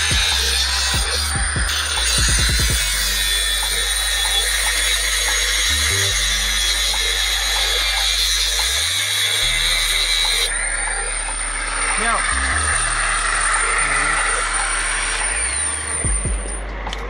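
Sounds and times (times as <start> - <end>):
angle grinder whining and grinding: 0.0 - 17.0.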